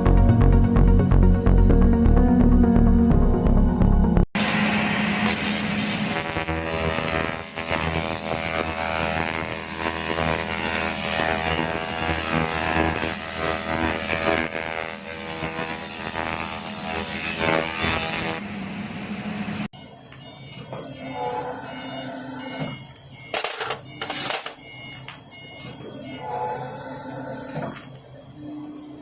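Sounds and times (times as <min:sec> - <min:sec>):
workshop machine buzzing hum: 0:04.4 - 0:29.0.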